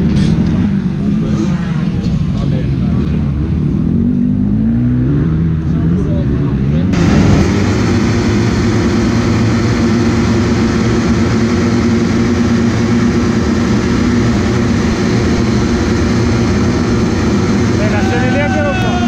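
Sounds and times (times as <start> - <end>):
motocross bike engines: 0.0 - 19.0.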